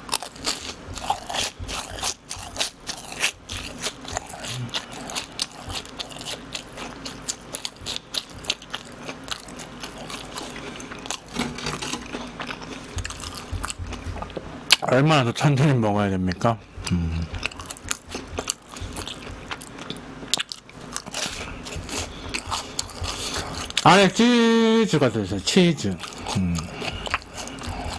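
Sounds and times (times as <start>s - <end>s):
person crunching and chewing: 0.0s - 15.0s, 16.3s - 24.5s, 25.1s - 27.9s.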